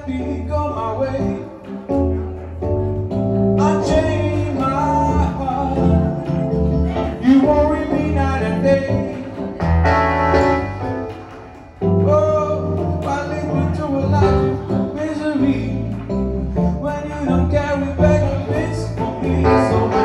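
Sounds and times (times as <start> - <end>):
live band music: 0.0 - 20.0.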